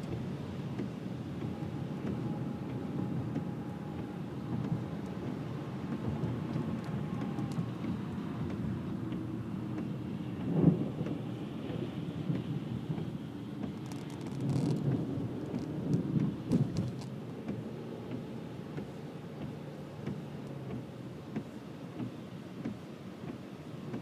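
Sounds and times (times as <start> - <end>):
rain on car: 0.0 - 24.0.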